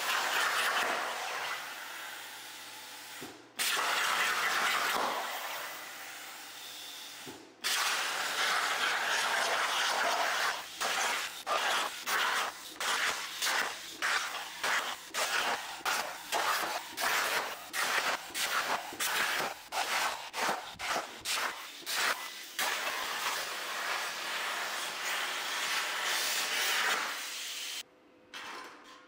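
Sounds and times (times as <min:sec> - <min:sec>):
plasma cutter hissing: 0:00.0 - 0:06.6, 0:07.2 - 0:27.8.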